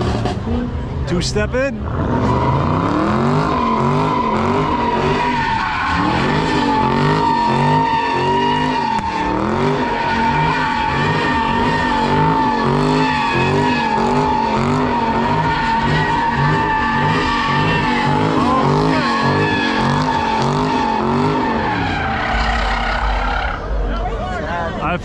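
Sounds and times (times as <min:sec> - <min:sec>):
car engine revving: 0:00.0 - 0:25.0
tire squeal: 0:01.8 - 0:24.4.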